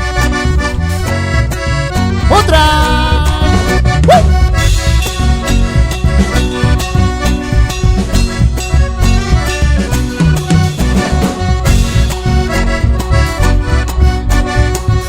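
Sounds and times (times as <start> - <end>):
accordion melody: 0.0 - 15.0
band playing dance music: 0.0 - 15.0.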